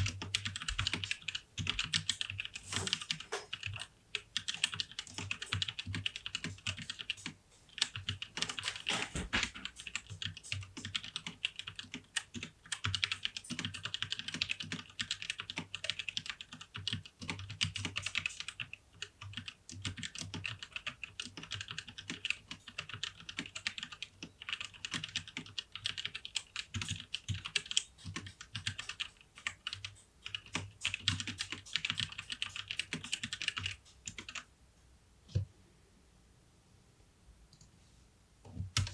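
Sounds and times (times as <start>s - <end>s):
mechanical keyboard typing: 0.0s - 34.5s, 38.7s - 38.9s.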